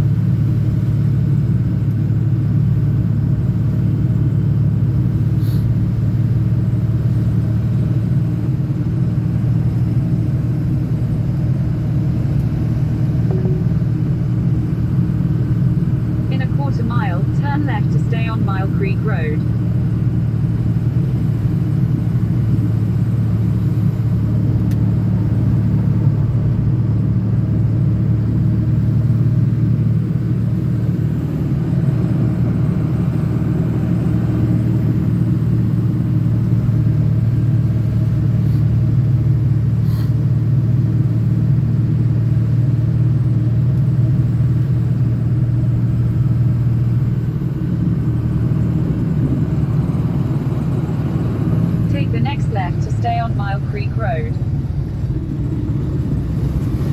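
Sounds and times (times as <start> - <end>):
truck engine and road drone: 0.0 - 56.9.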